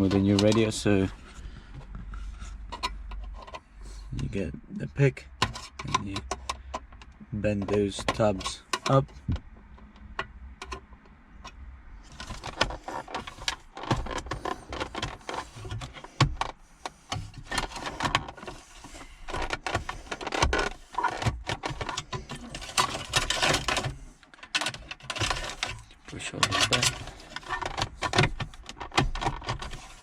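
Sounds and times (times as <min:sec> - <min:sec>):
metal clicking and scraping: 0:00.0 - 0:04.3, 0:05.3 - 0:30.0.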